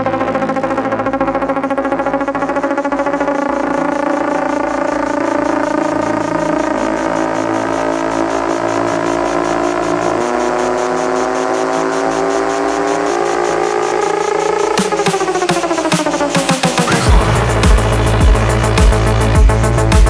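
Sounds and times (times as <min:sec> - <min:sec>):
held synthesizer chords: 0:00.0 - 0:20.0
rising synth riser: 0:00.0 - 0:20.0
techno kick drum: 0:01.5 - 0:20.0.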